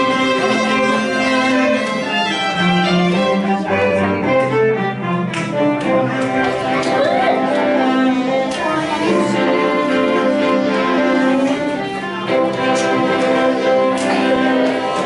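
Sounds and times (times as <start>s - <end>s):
cello and violin sustained notes: 0.0s - 15.0s.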